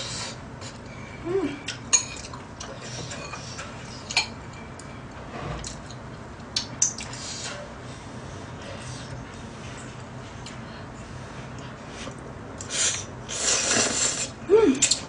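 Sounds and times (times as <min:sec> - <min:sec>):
soft eating sounds: 0:00.0 - 0:15.0.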